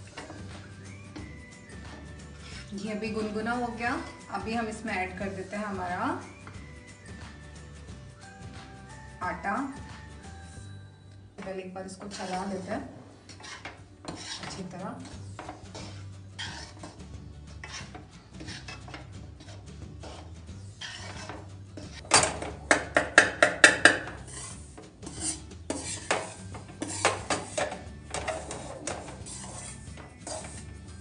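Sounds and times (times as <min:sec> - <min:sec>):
metal spatula scraping a pan: 0:00.0 - 0:07.1, 0:11.8 - 0:31.0.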